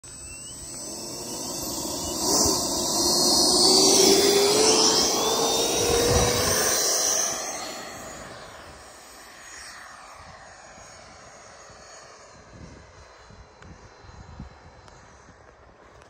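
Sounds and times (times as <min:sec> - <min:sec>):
ducted fan jet whine: 0:00.0 - 0:16.0.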